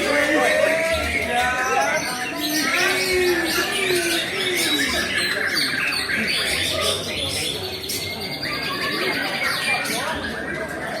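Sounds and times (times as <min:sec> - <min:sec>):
other birdsong: 0:00.0 - 0:11.0
people's voices: 0:00.0 - 0:11.0.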